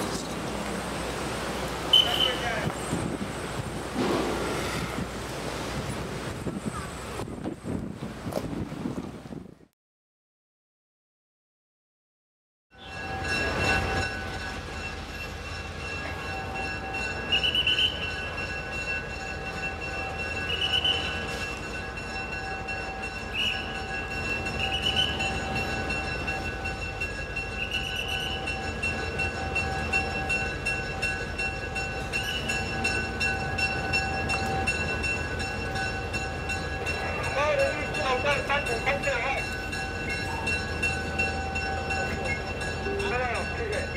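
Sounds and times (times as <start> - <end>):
diesel locomotive rumbling: 0.0 - 8.3, 12.8 - 43.9
level crossing warning: 0.4 - 5.1, 12.8 - 43.9.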